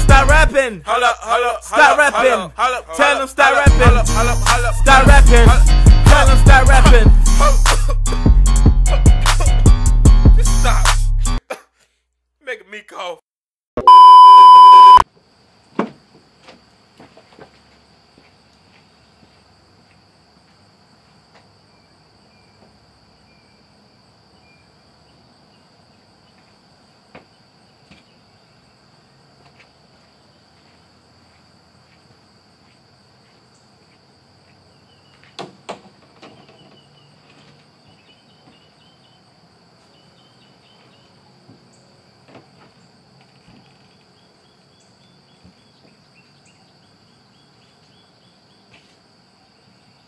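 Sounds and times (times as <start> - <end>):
insects chirring: 0.5 - 5.9, 15.0 - 50.0.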